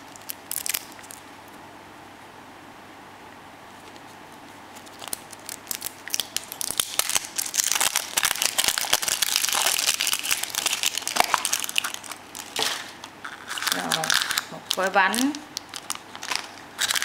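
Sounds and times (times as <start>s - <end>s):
foil wrapper crinkling: 0.0s - 1.3s, 3.8s - 17.0s.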